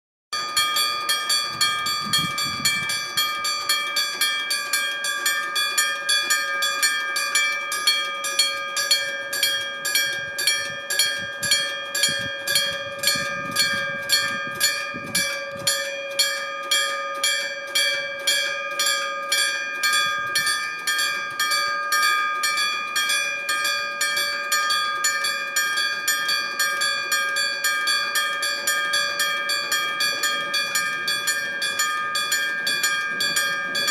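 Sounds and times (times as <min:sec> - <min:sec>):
level crossing alarm bell: 0:00.3 - 0:33.9.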